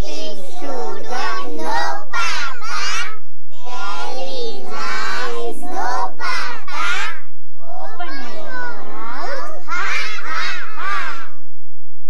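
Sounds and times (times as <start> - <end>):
girls singing together: 0.0 - 11.4.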